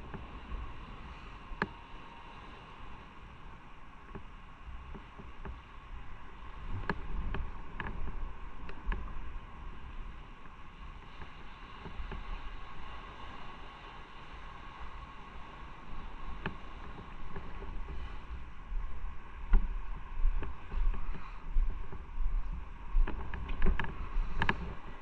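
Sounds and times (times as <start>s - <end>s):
road and wind noise: 0.0s - 25.0s.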